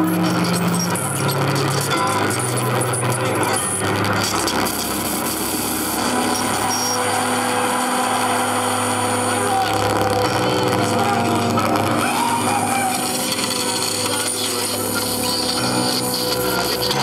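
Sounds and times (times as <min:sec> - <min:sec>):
dense electronic noise: 0:00.0 - 0:17.0
low hum: 0:00.0 - 0:17.0
steady electronic tones: 0:00.0 - 0:17.0.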